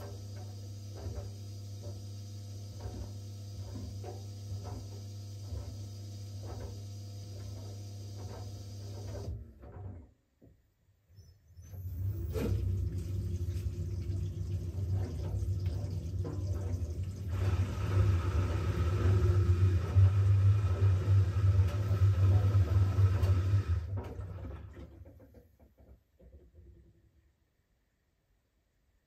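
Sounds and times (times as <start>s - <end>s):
washing machine drain pump humming: 0.0s - 9.8s, 11.6s - 26.3s.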